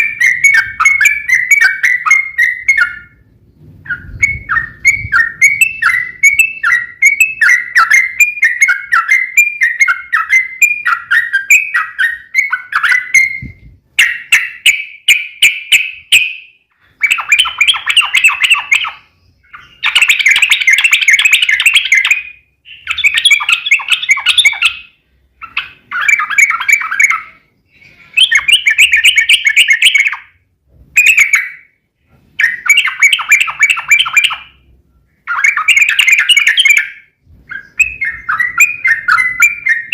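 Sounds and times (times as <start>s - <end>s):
bird song with chattering: 0.0s - 39.9s.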